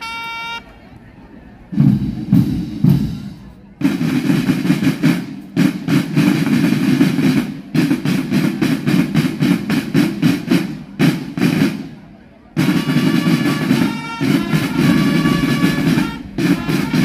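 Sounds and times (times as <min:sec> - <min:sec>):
field drums playing a cadence: 0:01.7 - 0:17.0.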